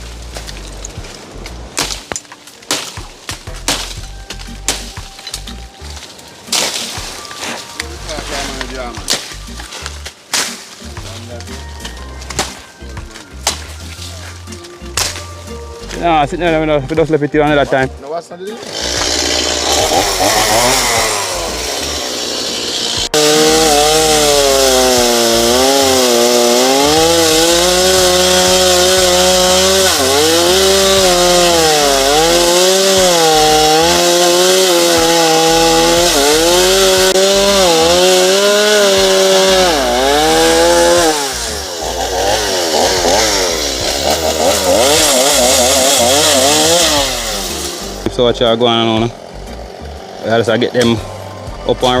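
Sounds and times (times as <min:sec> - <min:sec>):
chainsaw cutting wood: 0:00.0 - 0:12.7, 0:18.5 - 0:51.3.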